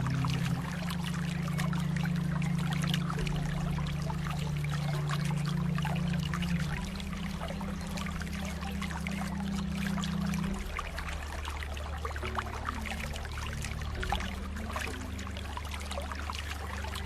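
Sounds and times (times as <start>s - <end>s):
light background music: 0.0s - 17.0s
trickling water: 0.0s - 17.0s.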